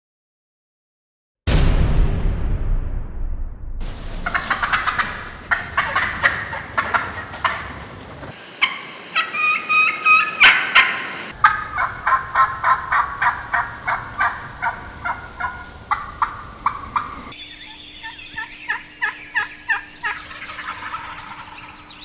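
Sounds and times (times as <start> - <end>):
turkey hen clucking and yelping: 3.9 - 22.0.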